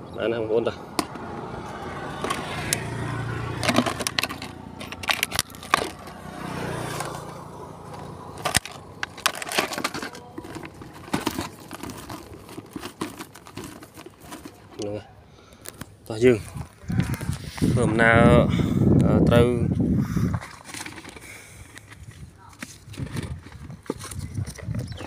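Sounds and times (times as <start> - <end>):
handling clicks and crinkling: 1.0 - 17.4, 20.3 - 25.0.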